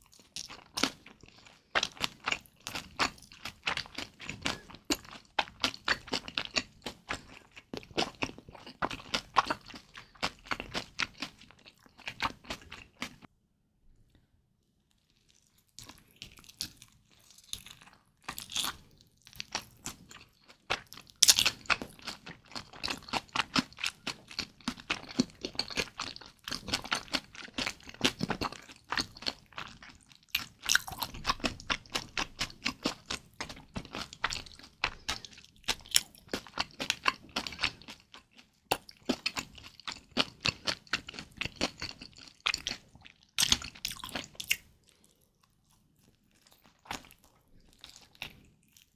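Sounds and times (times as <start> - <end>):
dumplings being chewed: 0.0 - 13.3, 14.8 - 48.9.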